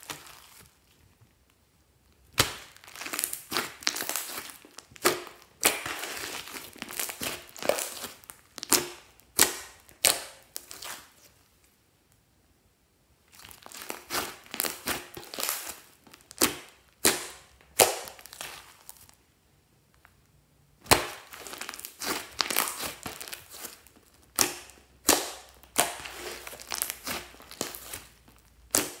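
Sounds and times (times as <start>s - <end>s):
slime crackling and popping: 2.0s - 11.2s, 13.3s - 19.2s, 20.8s - 29.0s.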